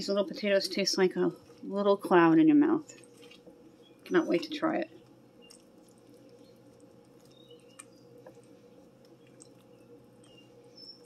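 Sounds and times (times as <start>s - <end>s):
steady low hum: 0.0s - 11.0s
stew squelching when stirred: 0.0s - 11.0s.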